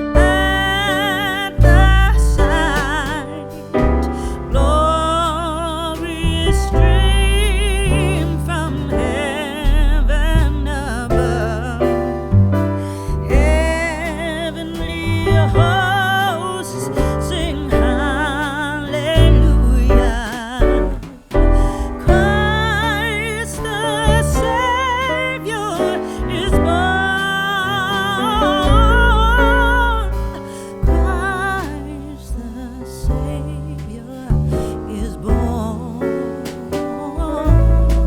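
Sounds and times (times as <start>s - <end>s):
song with singing over piano and bass: 0.0s - 38.0s.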